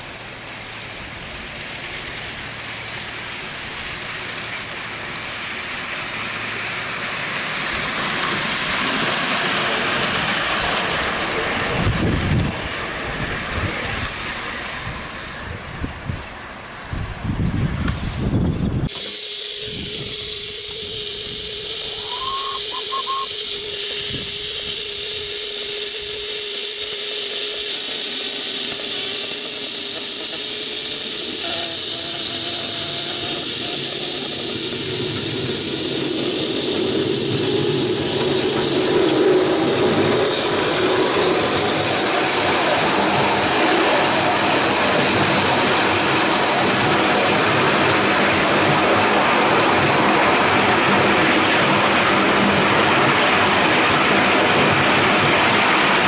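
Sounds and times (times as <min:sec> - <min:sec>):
model steam locomotive hissing: 0:00.0 - 0:17.4, 0:18.2 - 0:56.0
engine running along track: 0:00.0 - 0:56.0.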